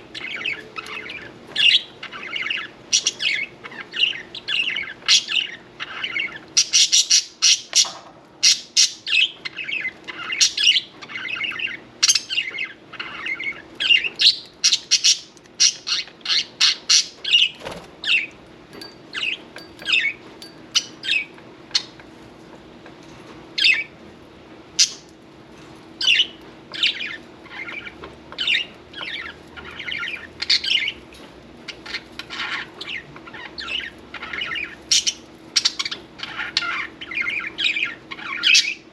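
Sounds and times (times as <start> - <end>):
budgerigars chirping and squawking: 0.0 - 22.2, 23.6 - 24.0, 24.7 - 25.1, 26.0 - 38.9.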